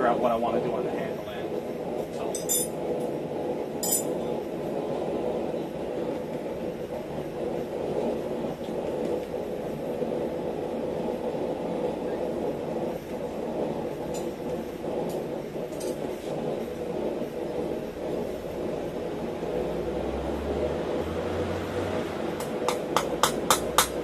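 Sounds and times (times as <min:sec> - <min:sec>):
forge roaring: 0:02.8 - 0:24.0.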